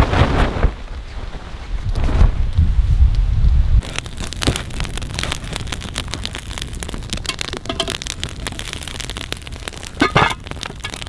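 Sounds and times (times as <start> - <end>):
stick fire crackling and popping: 0.0 - 11.0.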